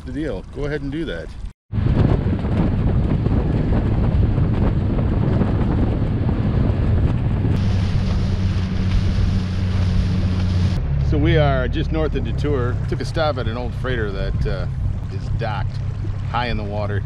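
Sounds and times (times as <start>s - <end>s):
choppy water rushing: 0.0s - 10.8s, 11.8s - 17.0s
wind buffeting microphone: 0.0s - 17.0s
outboard motor humming: 2.0s - 17.0s.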